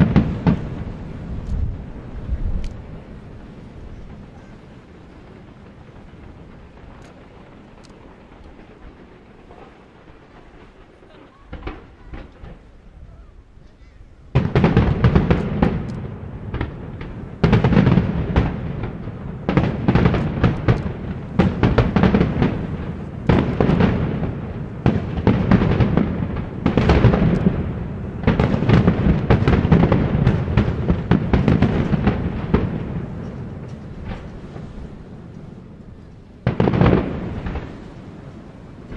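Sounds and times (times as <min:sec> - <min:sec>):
fireworks bursting and crackling: 0:00.0 - 0:13.6, 0:14.2 - 0:38.9.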